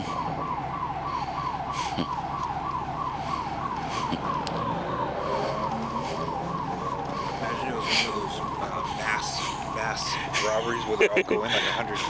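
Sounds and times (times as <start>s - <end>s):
security alarm siren wailing: 0.0s - 12.0s.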